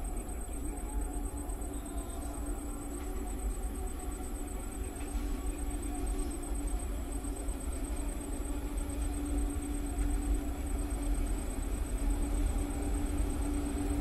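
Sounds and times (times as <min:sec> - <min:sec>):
goods train rumbling: 0:00.0 - 0:14.0.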